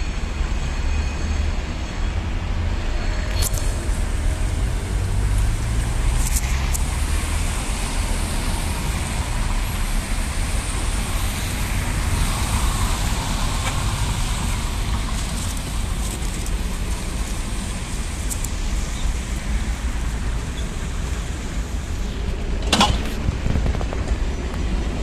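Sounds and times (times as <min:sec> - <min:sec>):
cars passing on wet road: 0:00.0 - 0:25.0.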